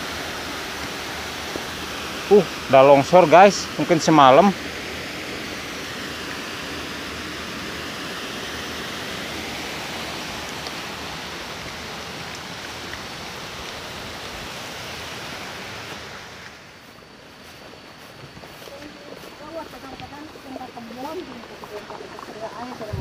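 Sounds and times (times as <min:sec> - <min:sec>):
water rushing down a stream: 0:00.0 - 0:23.0.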